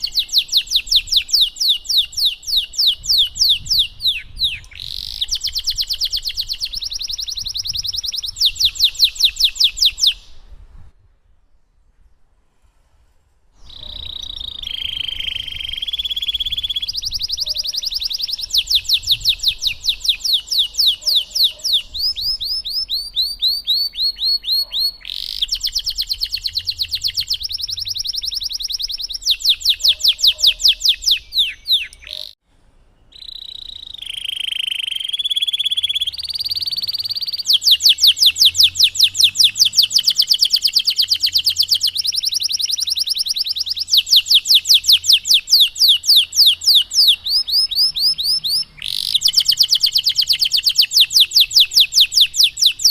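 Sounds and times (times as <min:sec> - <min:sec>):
canary singing trills: 0:00.0 - 0:10.5, 0:13.6 - 0:32.4, 0:33.0 - 0:52.9.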